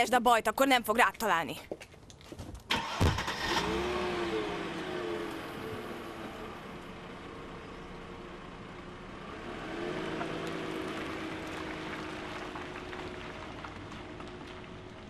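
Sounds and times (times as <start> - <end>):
car engine running: 2.8 - 15.0.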